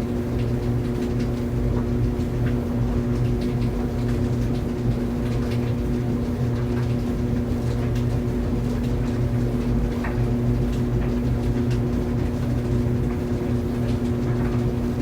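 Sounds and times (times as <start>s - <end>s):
clothes dryer motor hum: 0.0s - 15.0s.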